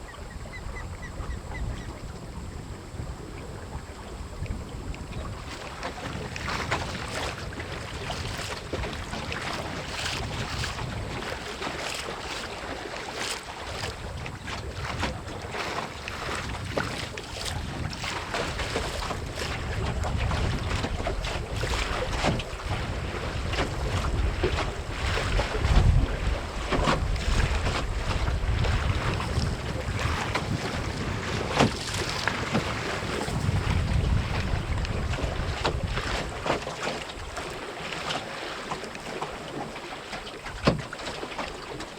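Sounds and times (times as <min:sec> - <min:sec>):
wind buffeting microphone: 0:00.0 - 0:39.7
water splashing against boat hull: 0:00.0 - 0:41.9.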